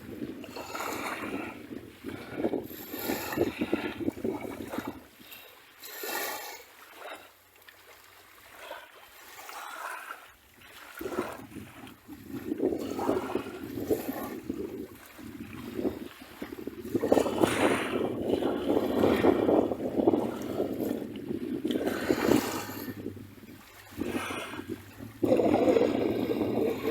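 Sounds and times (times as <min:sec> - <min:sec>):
sea waves washing up a beach: 0:00.0 - 0:26.9.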